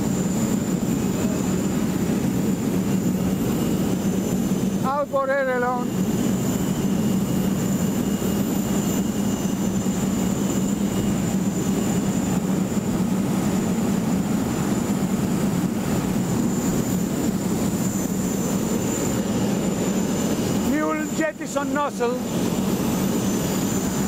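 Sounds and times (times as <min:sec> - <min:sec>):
thin high whine: 0:00.0 - 0:13.0, 0:15.7 - 0:24.0.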